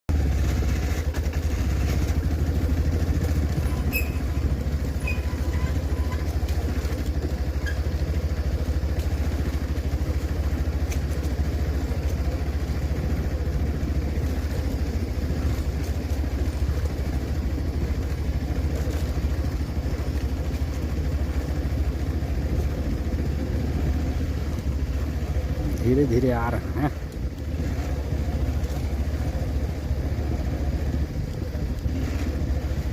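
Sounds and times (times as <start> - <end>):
vehicle engine idling: 0.1 - 32.9.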